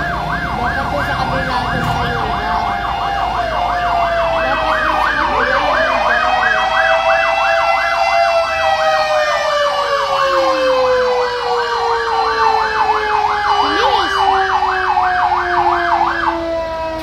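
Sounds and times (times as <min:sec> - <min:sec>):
fire truck siren warbling: 0:00.0 - 0:17.0.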